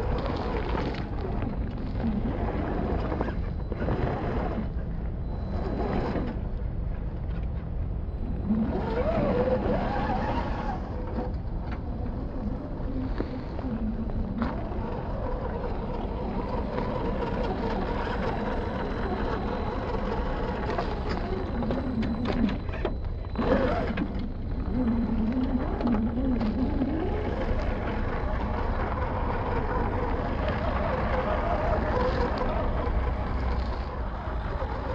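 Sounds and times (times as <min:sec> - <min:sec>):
gravel crunching: 0:00.0 - 0:04.9, 0:05.5 - 0:34.9
electric motor and gearbox whining: 0:00.0 - 0:34.9.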